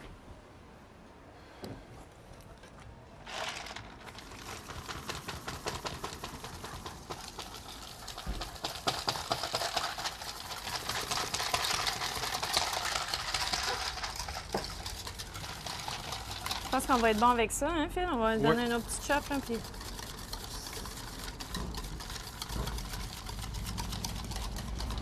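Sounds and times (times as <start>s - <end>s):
whisk rattling in metal bowl: 3.8s - 17.5s, 18.5s - 25.0s.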